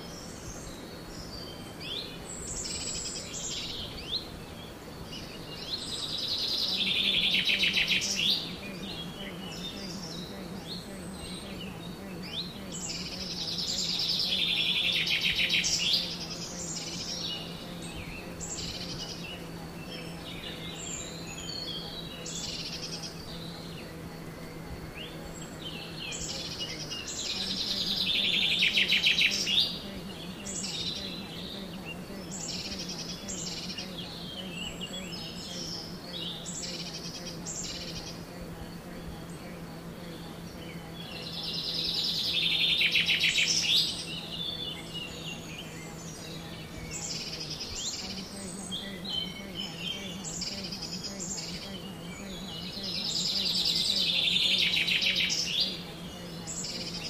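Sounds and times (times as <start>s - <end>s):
bird singing rapid trill: 0.0s - 38.3s, 39.0s - 57.0s
songbirds chirping: 0.0s - 57.0s
steady low hum: 0.0s - 57.0s.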